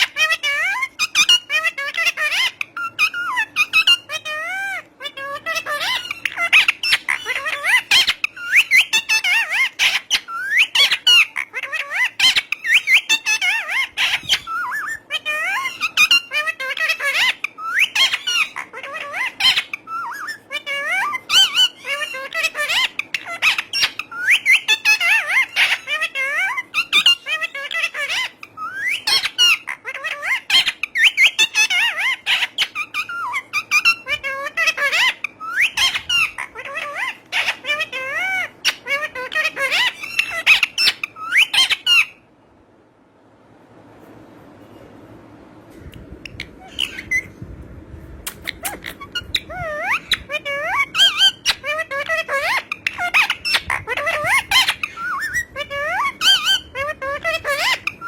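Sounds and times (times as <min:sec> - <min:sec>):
parrot chattering: 0:00.0 - 0:42.2, 0:46.2 - 0:47.4, 0:48.2 - 0:58.0.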